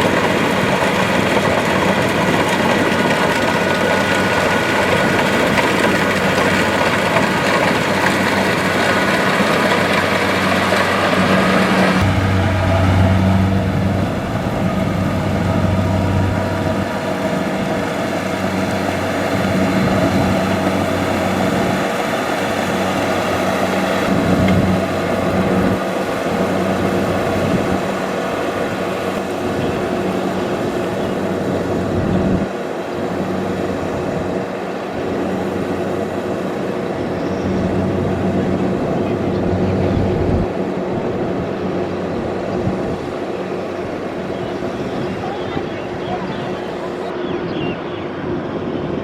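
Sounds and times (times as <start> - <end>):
combine harvester running: 0.0 - 49.0.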